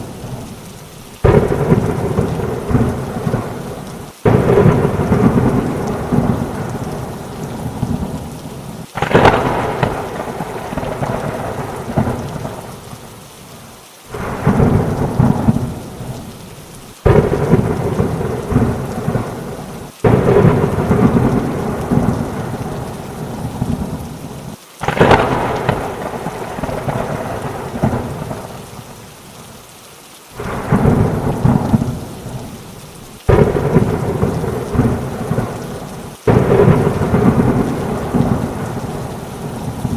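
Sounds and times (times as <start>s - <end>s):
heavy rain: 0.0s - 39.9s
thunder claps rumbling: 1.2s - 12.9s, 14.1s - 16.3s, 17.0s - 28.7s, 30.4s - 32.6s, 33.2s - 39.9s.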